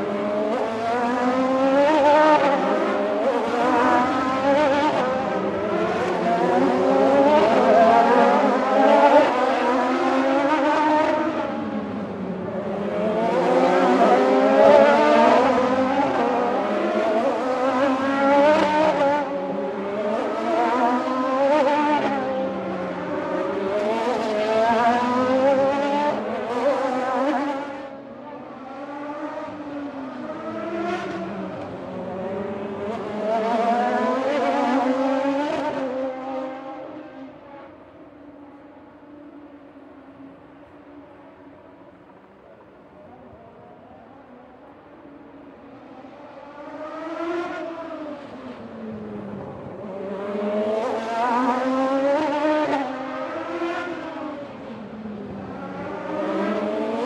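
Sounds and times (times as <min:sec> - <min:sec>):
race car engines revving past: 0:00.0 - 0:57.0.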